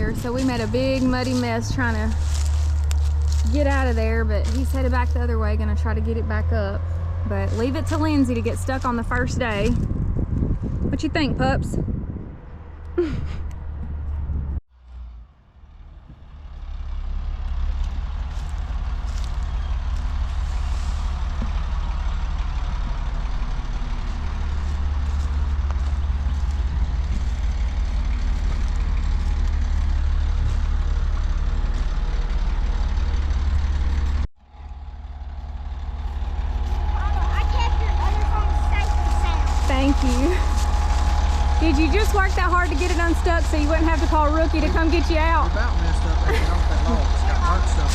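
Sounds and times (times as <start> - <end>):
diesel truck engine rumbling: 0.0 - 47.9.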